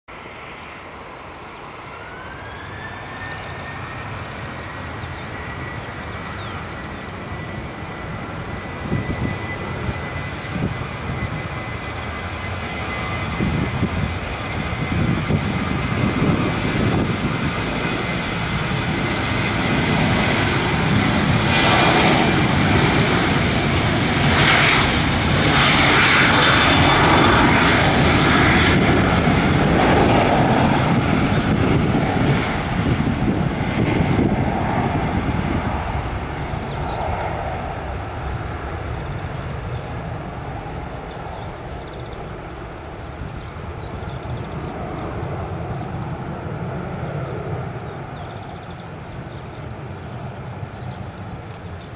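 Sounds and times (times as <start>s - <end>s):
jet engines whining on takeoff: 0.1s - 51.9s.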